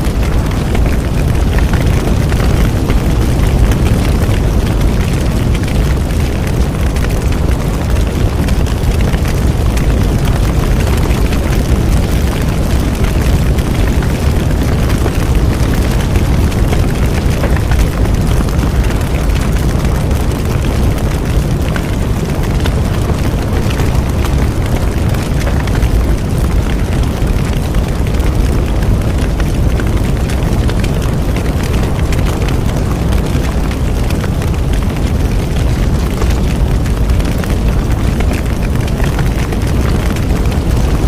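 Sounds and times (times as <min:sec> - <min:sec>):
burning wood crackling: 0:00.0 - 0:41.0
rumble of flames: 0:00.0 - 0:41.0.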